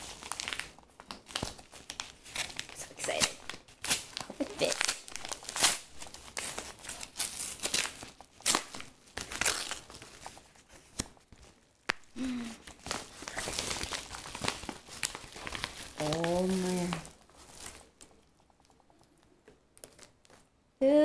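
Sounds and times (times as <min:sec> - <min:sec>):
envelope tearing and crinkling: 0:00.0 - 0:18.2.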